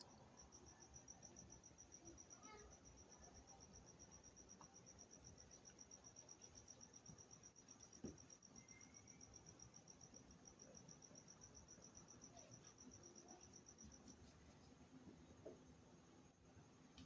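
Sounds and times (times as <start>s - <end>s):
insect chirping: 0.0s - 14.3s.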